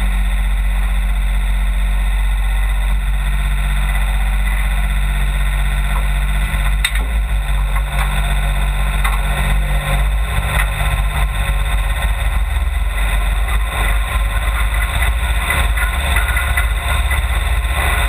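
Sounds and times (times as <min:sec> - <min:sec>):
truck engine humming: 0:00.0 - 0:18.0.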